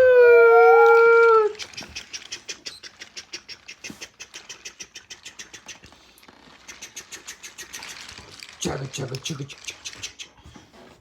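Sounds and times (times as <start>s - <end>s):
toy train wheels clicking: 1.5s - 10.4s.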